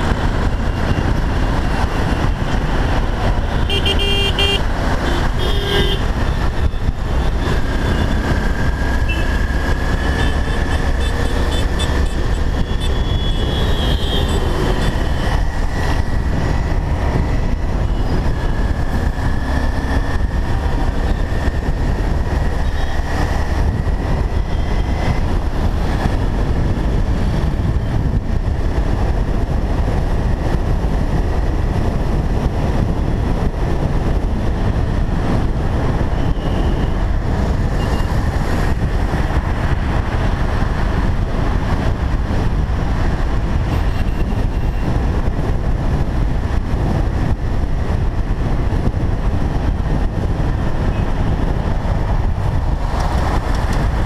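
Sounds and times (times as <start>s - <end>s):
motorcycle running: 0.0s - 54.0s
passing road traffic: 0.0s - 54.0s
wind on microphone: 0.0s - 54.0s.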